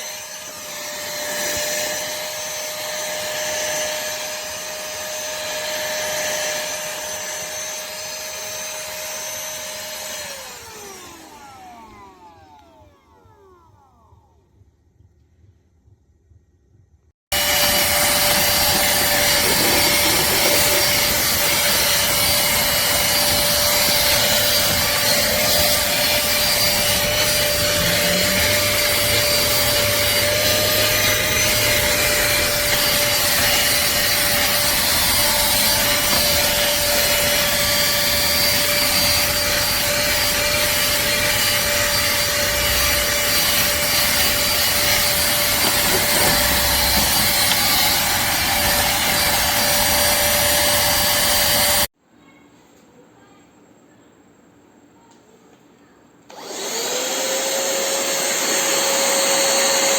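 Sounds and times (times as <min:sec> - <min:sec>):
handheld vacuum cleaner running: 0:00.0 - 0:14.4, 0:17.3 - 0:52.0, 0:56.3 - 0:59.9.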